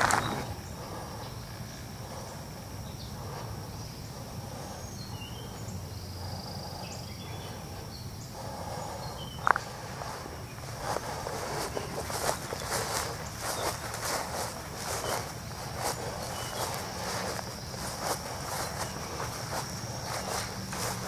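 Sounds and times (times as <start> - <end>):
bird chirps: 0.0 - 21.0
high-pitched insect drone: 0.0 - 21.0.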